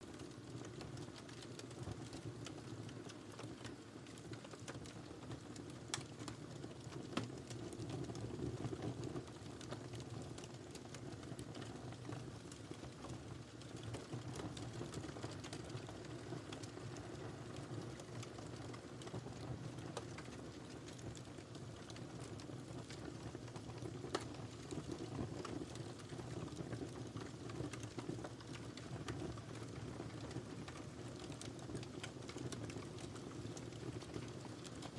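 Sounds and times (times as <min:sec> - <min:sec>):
firewood crackling and popping: 0:00.0 - 0:34.9
low rumble of flames: 0:00.1 - 0:34.9.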